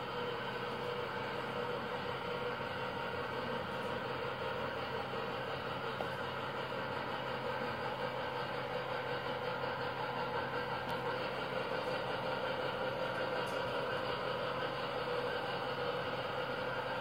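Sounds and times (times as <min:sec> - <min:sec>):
model train cars rumbling: 0:00.0 - 0:17.0.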